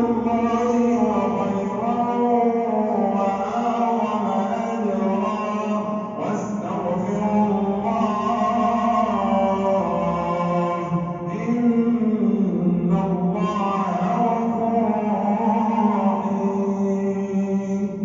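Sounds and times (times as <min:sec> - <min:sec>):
man chanting prayer: 0:00.0 - 0:18.0.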